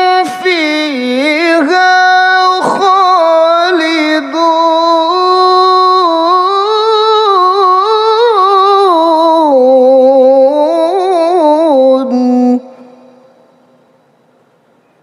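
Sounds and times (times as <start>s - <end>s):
man reciting melodically: 0.0s - 13.7s.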